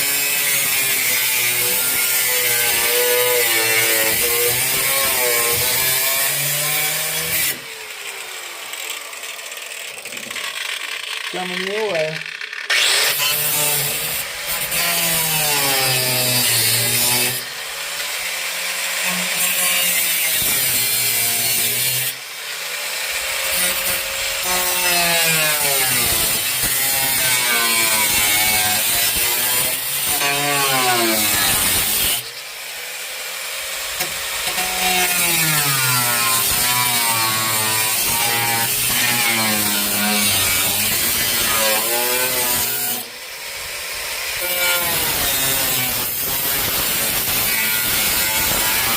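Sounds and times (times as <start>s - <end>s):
power tool cutting sheet steel: 0.0s - 48.9s.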